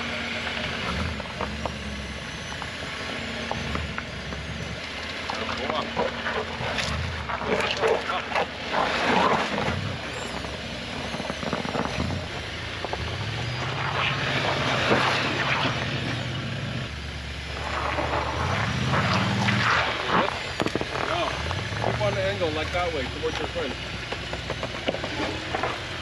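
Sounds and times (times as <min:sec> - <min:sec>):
off-road vehicle engine revving: 0:00.0 - 0:26.0
rough crackling and scraping: 0:00.0 - 0:26.0.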